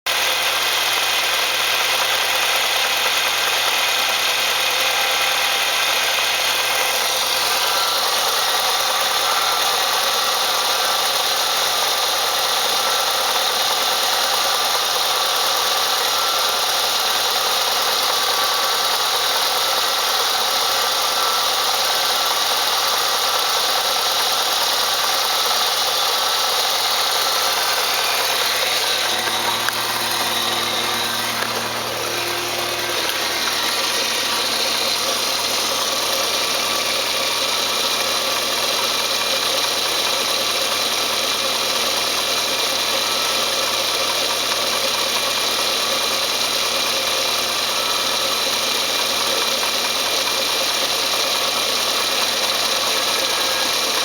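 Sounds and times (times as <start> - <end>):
car engine running with abnormal noise: 0.0 - 54.0.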